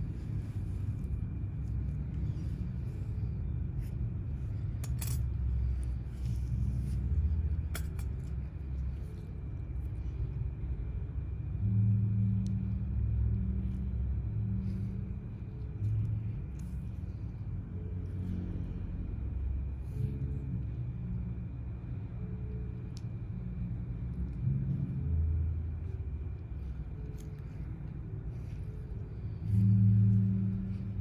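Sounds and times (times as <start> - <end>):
faint high whine: 0.0 - 31.0
low background rumble and hum: 0.0 - 31.0.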